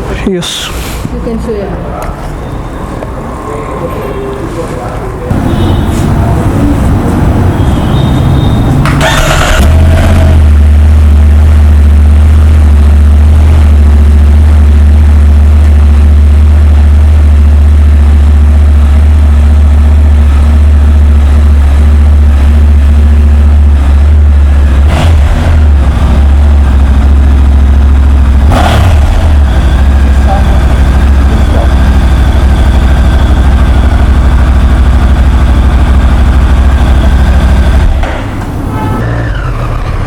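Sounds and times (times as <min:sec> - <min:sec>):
motorcycle engine starting and idling: 0:03.5 - 0:40.0.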